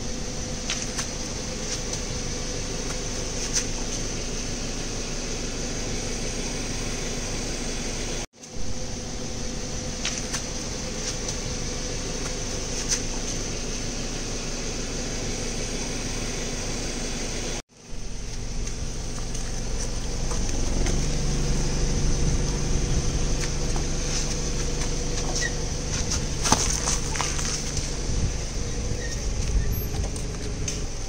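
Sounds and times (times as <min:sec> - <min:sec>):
car engine idling: 0:00.0 - 0:31.0
low hum: 0:00.0 - 0:31.0.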